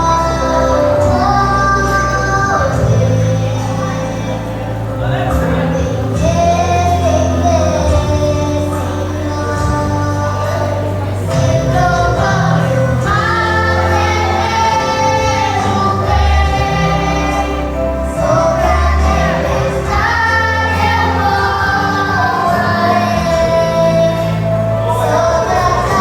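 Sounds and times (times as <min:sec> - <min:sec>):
instrumental accompaniment: 0:00.0 - 0:26.0
sustained low bass notes: 0:00.0 - 0:26.0
voices singing: 0:00.0 - 0:26.0.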